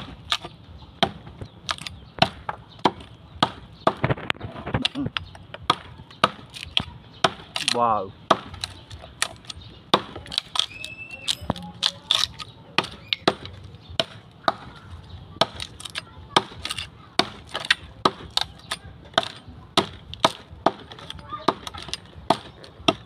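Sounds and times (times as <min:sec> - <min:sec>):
hoe chopping into log: 0:00.0 - 0:14.8, 0:15.4 - 0:23.0.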